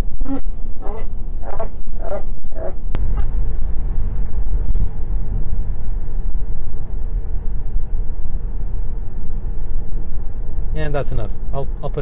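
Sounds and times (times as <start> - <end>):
tyre road and wind noise in car: 0.0 - 12.0.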